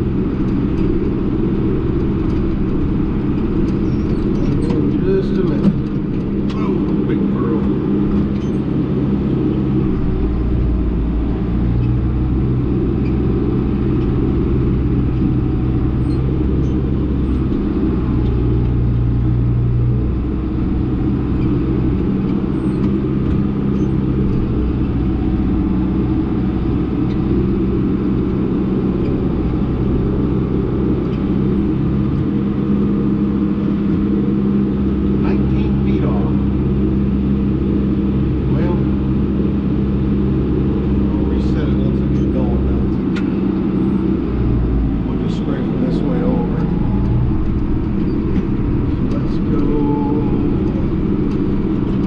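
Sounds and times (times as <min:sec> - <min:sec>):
tractor diesel engine droning: 0:00.0 - 0:52.0.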